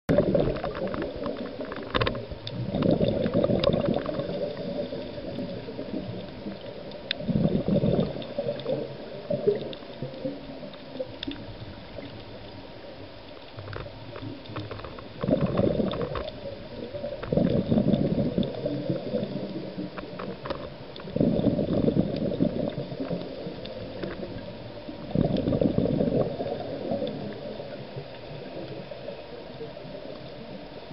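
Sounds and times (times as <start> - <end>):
diver's bubbles gurgling: 0.1 - 30.9
faint clicks underwater: 0.1 - 30.9.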